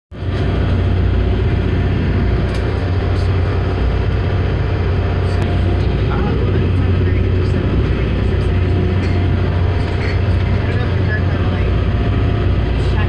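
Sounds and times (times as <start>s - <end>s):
diesel engines droning: 0.1s - 13.0s
water rushing against hull: 0.1s - 13.0s.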